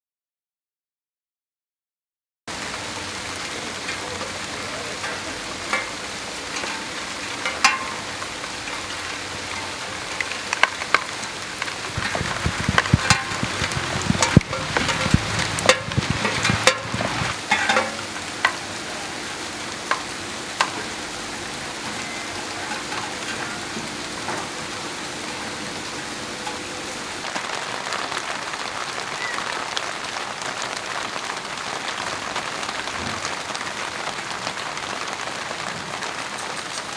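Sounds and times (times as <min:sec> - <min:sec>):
rain hissing: 0:02.5 - 0:36.9
raindrops splashing on surfaces: 0:02.5 - 0:36.9.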